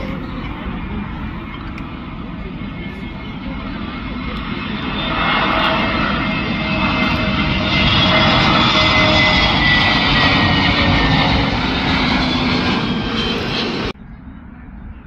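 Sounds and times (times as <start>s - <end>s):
jet engine noise with whine: 0.0s - 15.0s.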